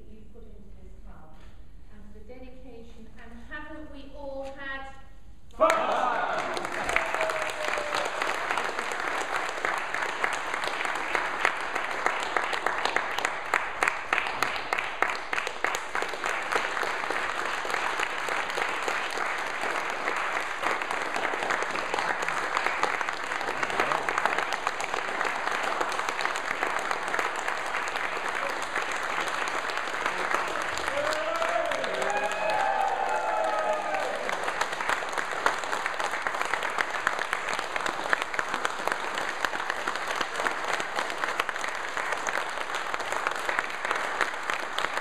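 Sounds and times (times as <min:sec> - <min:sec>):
audience clapping: 0:05.6 - 0:45.0.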